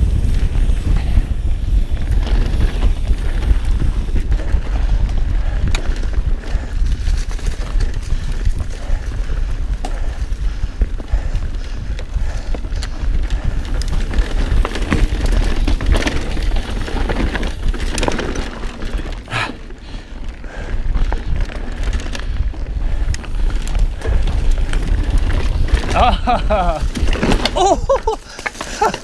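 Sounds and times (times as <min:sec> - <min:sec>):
bike clattering and rattling: 0:00.0 - 0:29.0
bike tyre noise: 0:00.0 - 0:29.0
wind rumble on microphone: 0:00.0 - 0:29.0.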